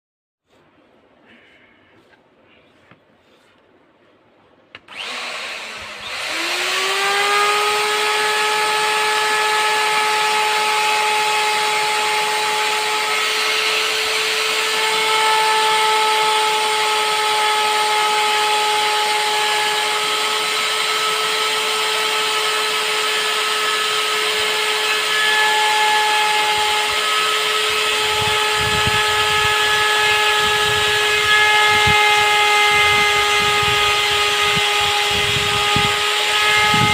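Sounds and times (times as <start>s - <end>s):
router motor whining: 4.7s - 36.9s.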